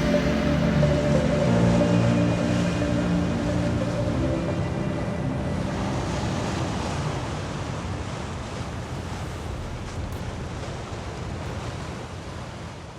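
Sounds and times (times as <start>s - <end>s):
sea surf rushing: 0.0s - 12.9s.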